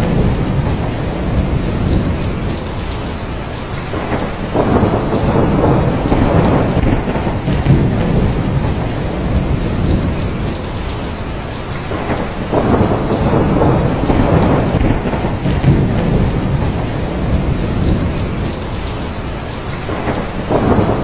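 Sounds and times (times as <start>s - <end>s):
heavy rain: 0.0s - 21.0s
thunder rolling: 0.0s - 21.0s.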